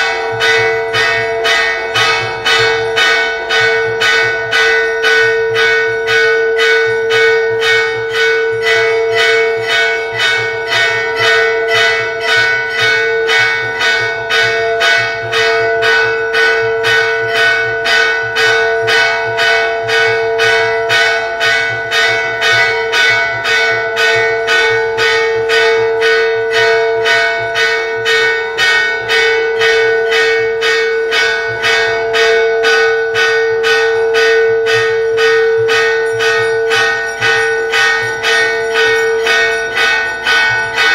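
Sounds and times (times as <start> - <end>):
bell struck rapidly: 0.0 - 40.9.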